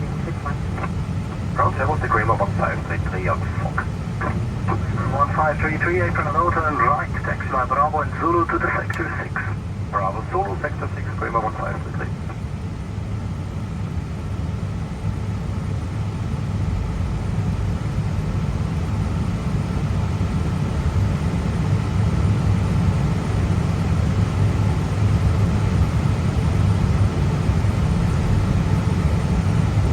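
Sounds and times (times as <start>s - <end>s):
aircraft engines idling: 0.0s - 29.9s.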